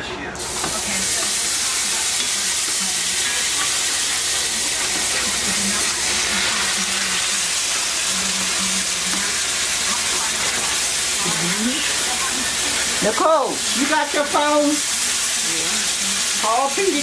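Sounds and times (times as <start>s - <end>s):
gravy sizzling in skillet: 0.4s - 17.0s.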